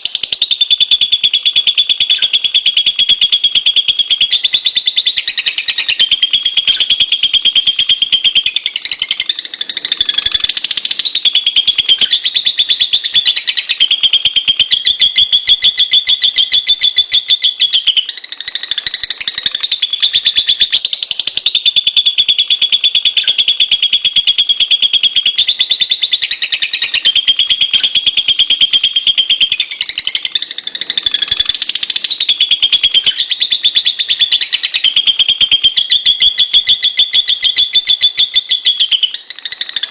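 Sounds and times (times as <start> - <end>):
lovebird chattering shrilly: 0.0 - 39.9.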